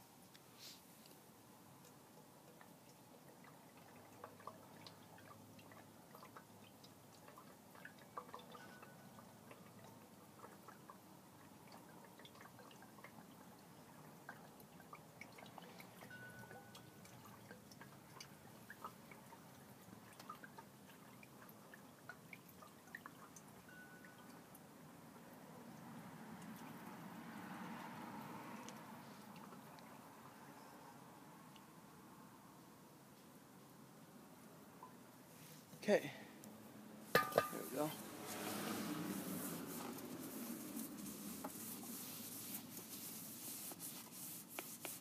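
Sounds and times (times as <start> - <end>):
gasoline trickling into tank: 1.6 - 30.7, 37.0 - 45.0.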